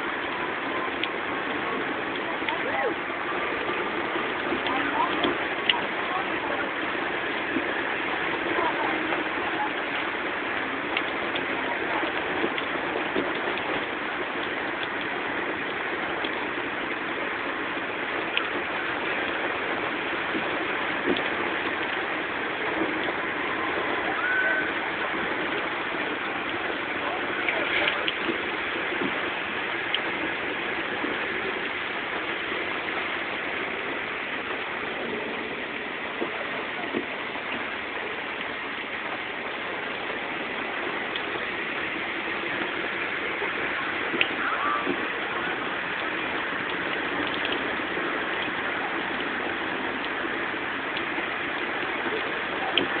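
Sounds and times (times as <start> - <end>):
rain and floodwater rushing: 0.0 - 53.0.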